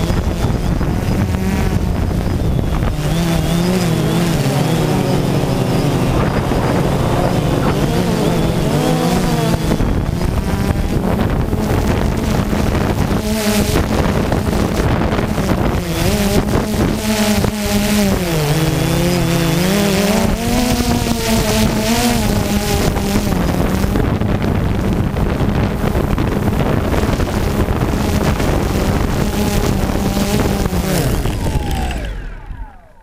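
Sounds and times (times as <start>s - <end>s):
drone propellers humming: 0.0s - 33.0s.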